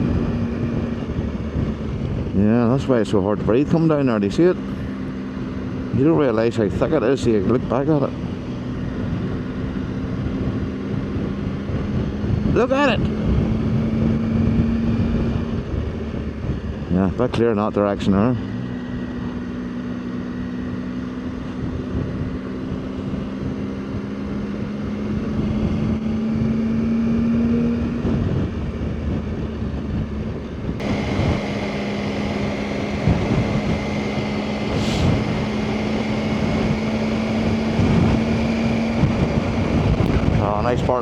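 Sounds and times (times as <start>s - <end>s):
wind noise on microphone: 0.0s - 17.5s, 18.1s - 41.0s
motorcycle engine running: 0.0s - 41.0s.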